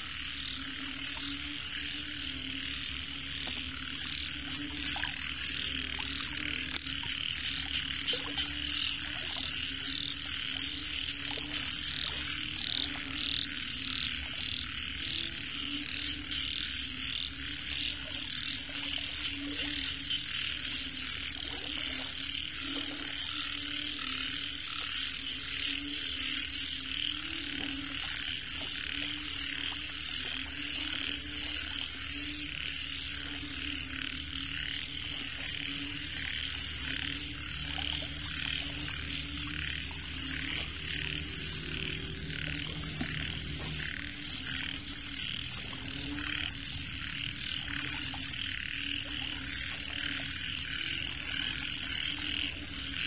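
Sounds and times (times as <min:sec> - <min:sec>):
frogs calling in chorus: 0:00.0 - 0:53.0
low frog croaks: 0:00.0 - 0:53.0.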